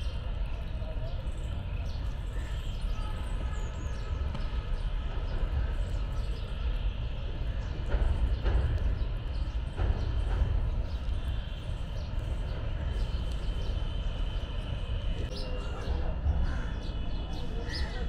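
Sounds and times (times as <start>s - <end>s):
background chatter: 0.0s - 18.0s
traffic noise: 0.0s - 18.0s.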